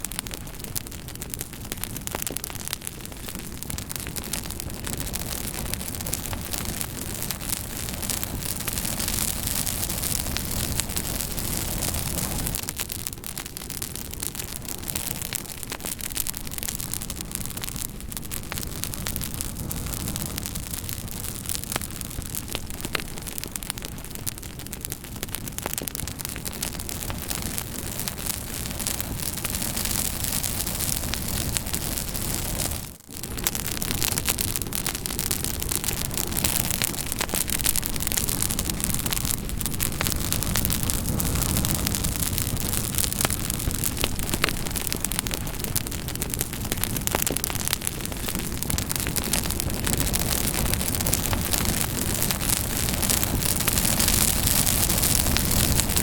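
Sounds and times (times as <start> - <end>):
campfire crackling: 0.0 - 56.0
fire popping and snapping: 0.0 - 56.0.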